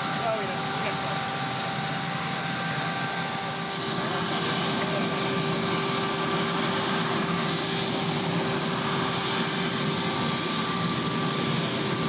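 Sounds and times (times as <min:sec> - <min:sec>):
helicopter turbine engines running: 0:00.0 - 0:12.0.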